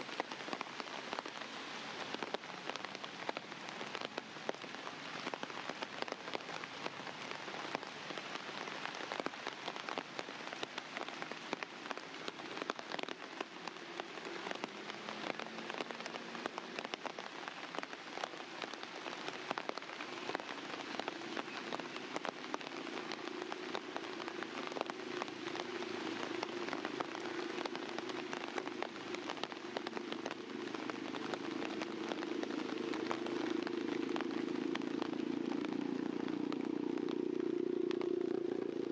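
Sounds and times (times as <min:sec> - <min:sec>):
rain ticking on a surface: 0:00.0 - 0:38.9.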